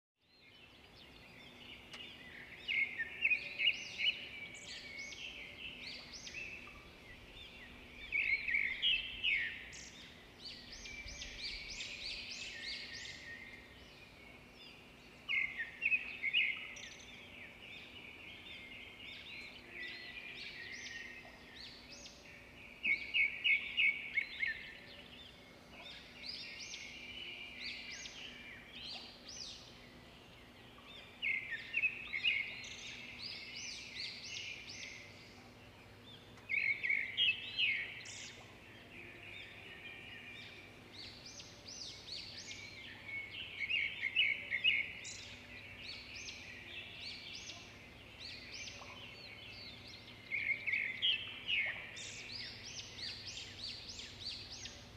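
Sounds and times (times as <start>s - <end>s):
songbirds chirping and trilling: 0.2s - 54.9s.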